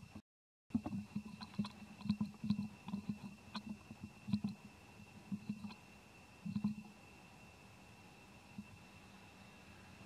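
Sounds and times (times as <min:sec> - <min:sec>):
faint steady high tone: 0:00.0 - 0:10.0.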